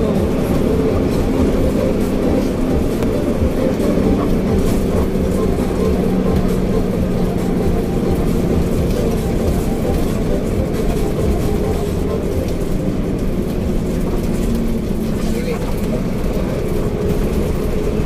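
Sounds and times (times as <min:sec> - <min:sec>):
bus engine drone: 0:00.0 - 0:18.0
tyre and road rumble: 0:00.0 - 0:18.0.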